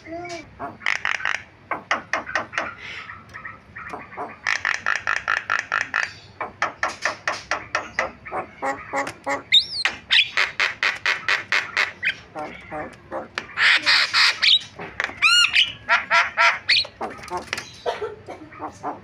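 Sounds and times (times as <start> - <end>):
myna harsh chattering calls: 0.3 - 17.9.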